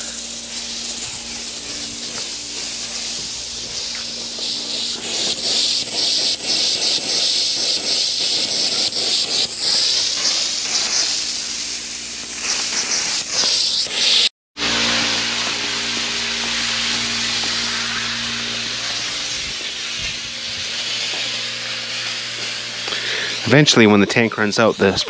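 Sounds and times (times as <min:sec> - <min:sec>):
sprinkler sputtering hiss: 0:00.0 - 0:14.3, 0:15.5 - 0:25.0.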